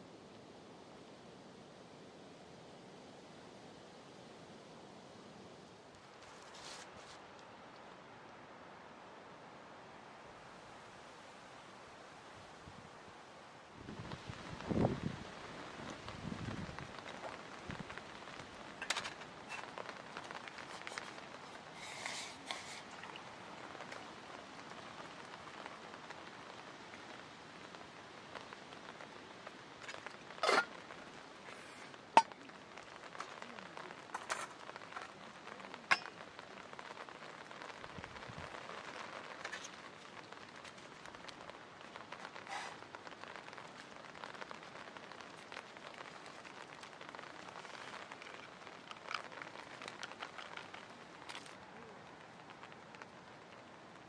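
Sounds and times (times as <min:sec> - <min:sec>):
campfire hissing: 0:00.0 - 0:54.0
fire crackles and pops: 0:00.0 - 0:54.0.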